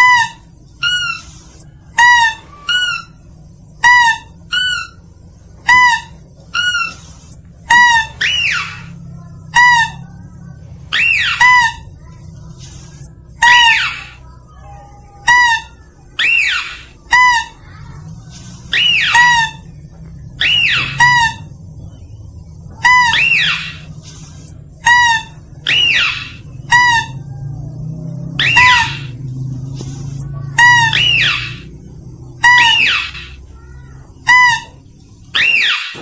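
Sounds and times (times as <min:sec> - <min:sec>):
high squeak and falling squeal: 0:00.0 - 0:36.0
steady low hum: 0:00.0 - 0:36.0.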